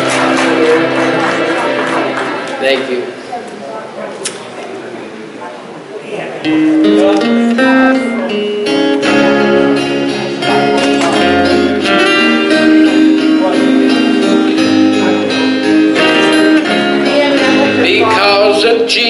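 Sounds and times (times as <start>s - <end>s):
country guitar instrumental music: 0.0s - 3.2s, 6.4s - 19.0s.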